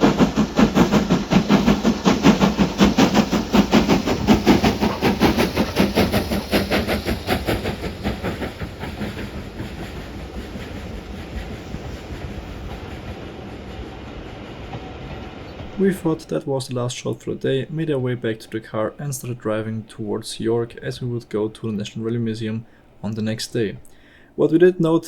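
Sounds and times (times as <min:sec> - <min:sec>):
low rumble of train: 0:00.0 - 0:23.9
steam locomotive chuffing: 0:00.0 - 0:25.0.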